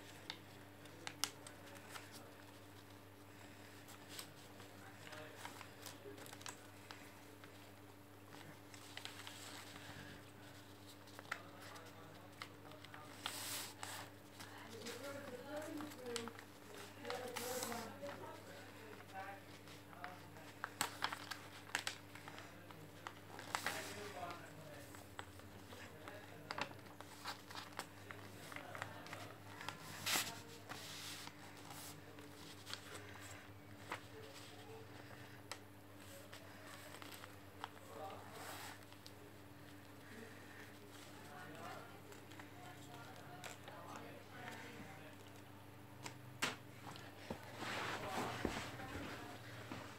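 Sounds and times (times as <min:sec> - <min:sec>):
paper rustling and creasing: 0:00.1 - 0:45.3, 0:46.8 - 0:49.9.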